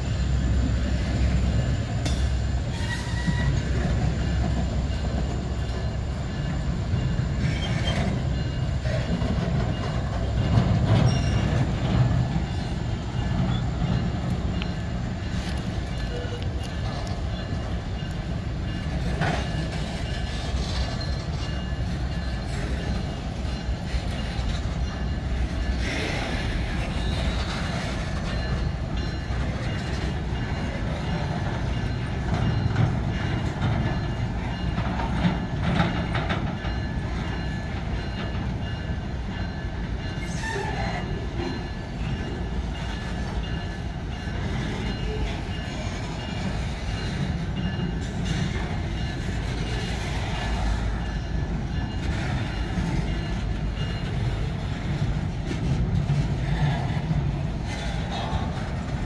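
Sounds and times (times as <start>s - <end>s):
steel wheels rumbling on rails: 0.0s - 59.0s.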